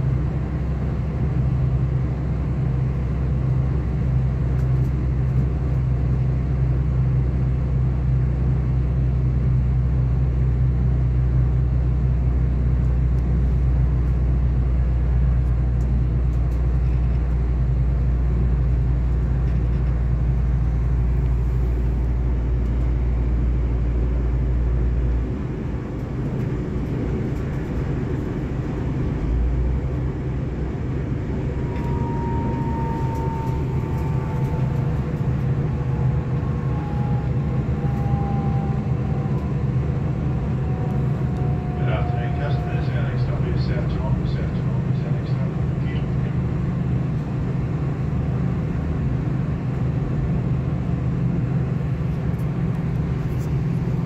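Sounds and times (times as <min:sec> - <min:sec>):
deep diesel drone: 0:00.0 - 0:54.0
train interior rumble: 0:00.0 - 0:54.0.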